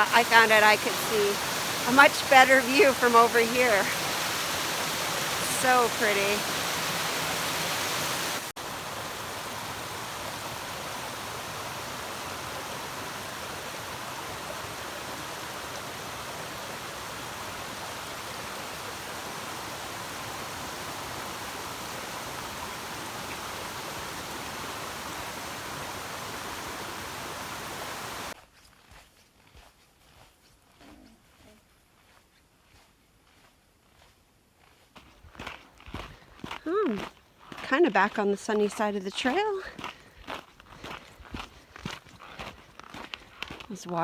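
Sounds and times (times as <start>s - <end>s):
small waterfall rushing: 0.0s - 28.4s, 35.4s - 44.0s.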